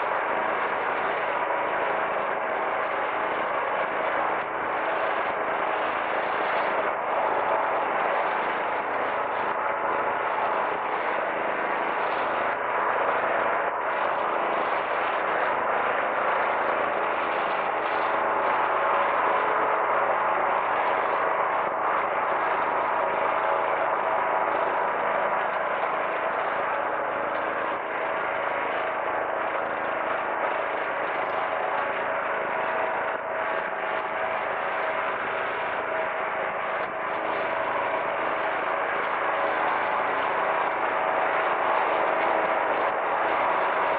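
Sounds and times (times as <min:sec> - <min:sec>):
jet engines at takeoff: 0:00.4 - 0:43.9.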